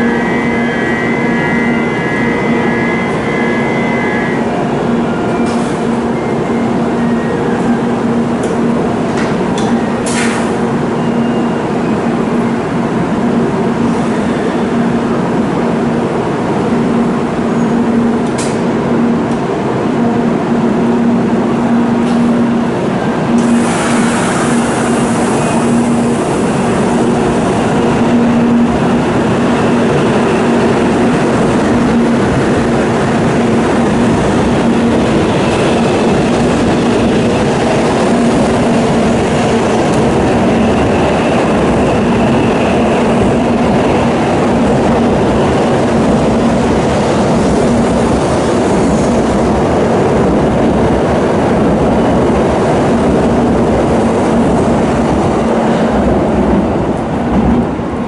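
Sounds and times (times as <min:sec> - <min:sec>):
train running noise with low hum: 0:00.0 - 0:58.0.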